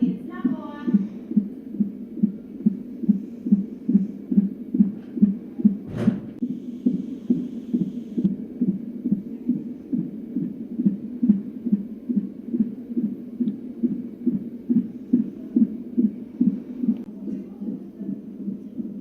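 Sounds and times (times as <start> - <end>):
fetal heartbeat on doppler monitor: 0.0 - 17.1.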